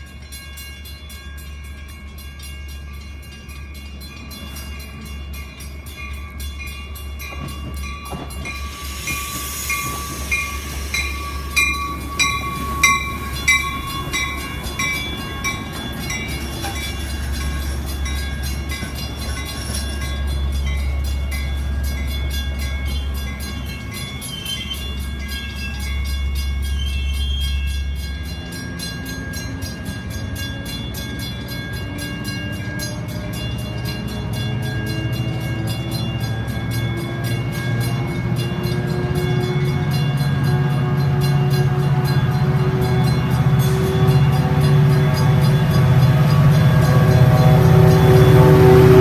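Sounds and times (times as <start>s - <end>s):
diesel locomotive engine: 0.0s - 49.0s
train wheels rumbling on rail: 0.0s - 49.0s.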